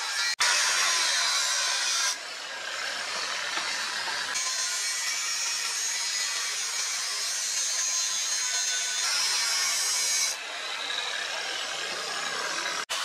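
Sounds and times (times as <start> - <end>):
steel blade grinding: 0.0 - 13.0.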